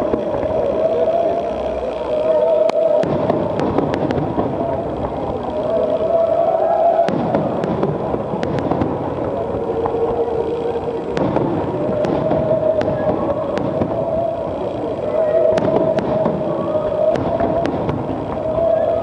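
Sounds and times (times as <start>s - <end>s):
fireworks cracking: 0.0s - 19.0s
murmur of voices: 0.0s - 19.0s.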